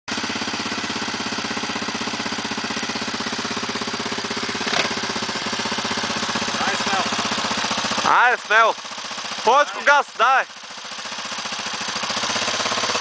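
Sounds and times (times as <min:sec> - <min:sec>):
dirt bike engine idling: 0:00.1 - 0:13.0.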